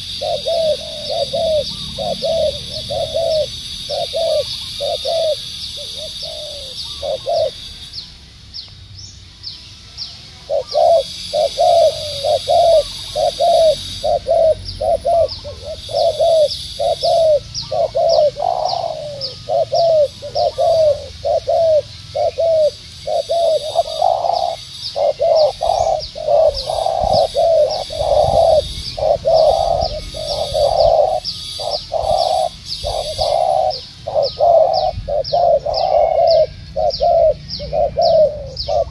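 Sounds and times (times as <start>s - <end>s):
doves cooing: 0.0s - 7.9s, 10.4s - 38.9s
high chirping: 0.0s - 38.9s.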